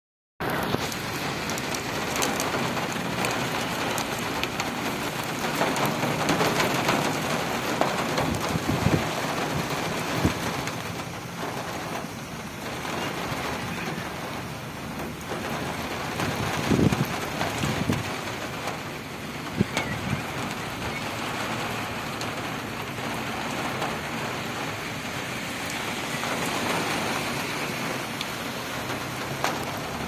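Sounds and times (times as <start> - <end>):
rain on wet pavement: 0.4 - 30.0.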